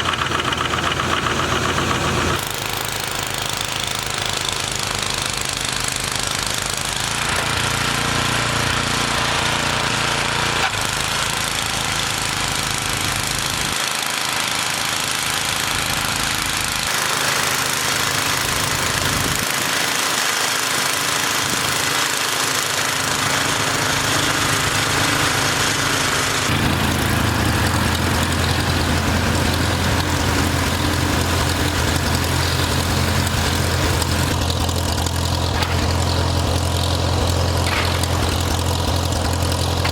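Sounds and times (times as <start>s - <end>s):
tractor engine knocking: 0.0s - 39.9s.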